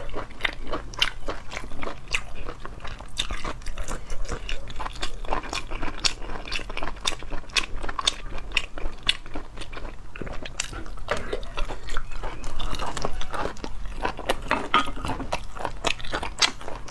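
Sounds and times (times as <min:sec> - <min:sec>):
wet chewing and crunchy bites: 0:00.0 - 0:16.9.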